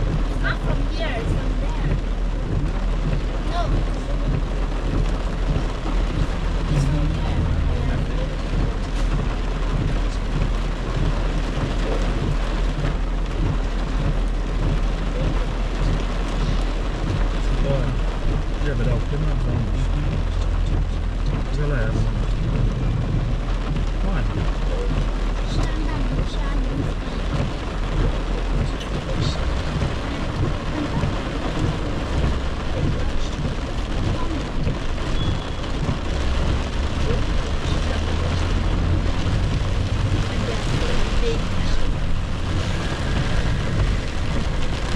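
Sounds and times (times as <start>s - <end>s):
engine and tyres on wet road: 0.0s - 44.9s
heavy rain on car roof: 0.0s - 44.9s
low rumble of moving car: 0.0s - 44.9s.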